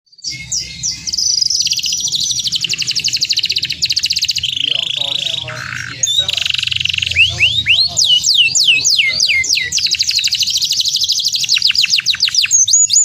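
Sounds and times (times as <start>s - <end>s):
canary singing trills: 0.1s - 13.0s.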